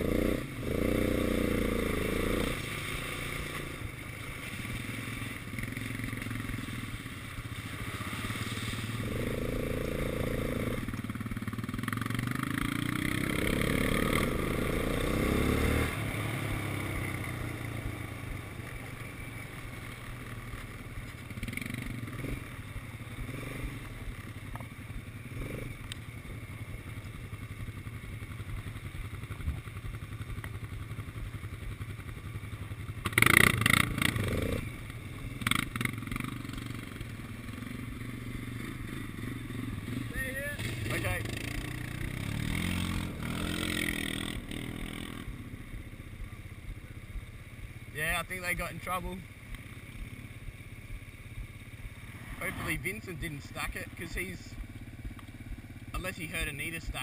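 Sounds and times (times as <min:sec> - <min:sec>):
quad bike engine revving: 0:00.0 - 0:46.9, 0:51.6 - 0:57.0.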